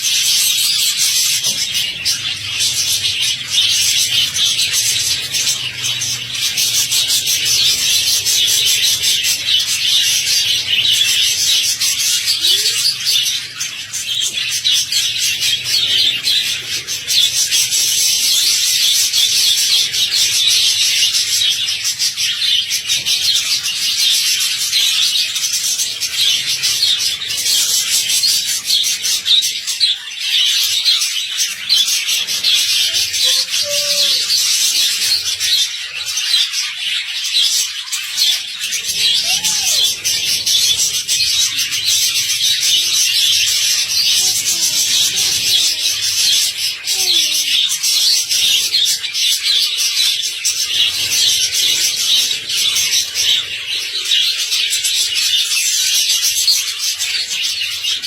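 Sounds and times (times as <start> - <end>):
budgerigars twittering: 0.0 - 58.0.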